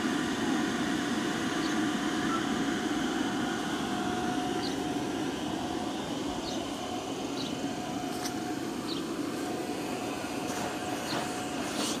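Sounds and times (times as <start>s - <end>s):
inflation blower whirring: 0.0s - 12.0s.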